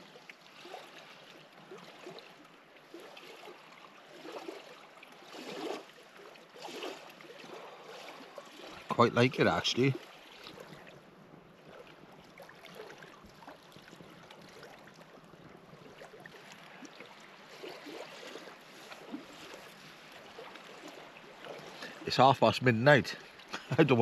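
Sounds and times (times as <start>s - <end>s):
small waves lapping: 0.0s - 24.0s.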